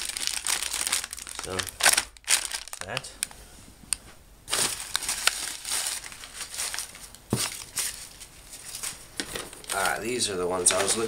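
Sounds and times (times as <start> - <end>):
plastic wrappers crinkling: 0.0 - 3.4, 4.5 - 11.0.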